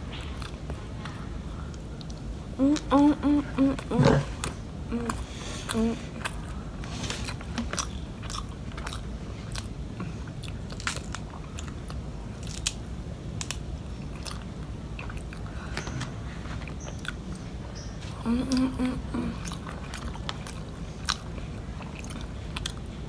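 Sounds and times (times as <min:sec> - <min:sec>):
chewing crispy fried fish: 0:04.0 - 0:23.0.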